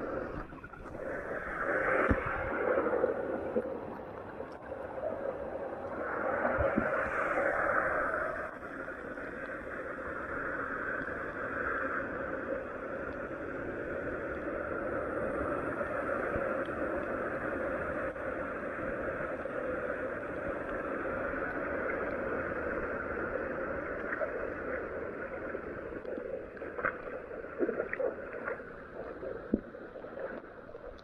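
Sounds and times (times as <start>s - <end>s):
running floodwater: 0.0s - 31.0s.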